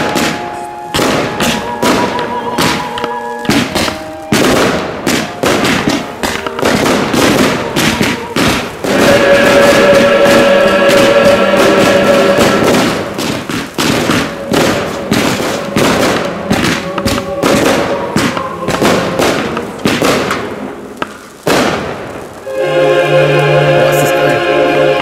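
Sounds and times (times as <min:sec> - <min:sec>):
music playing: 0:00.0 - 0:21.0, 0:22.4 - 0:25.0
fireworks banging: 0:00.0 - 0:25.0.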